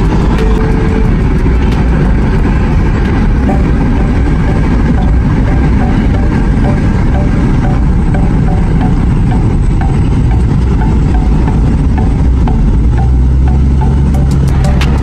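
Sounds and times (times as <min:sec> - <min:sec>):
car engine rumble: 0:00.0 - 0:15.0
tyre noise on road: 0:00.0 - 0:15.0.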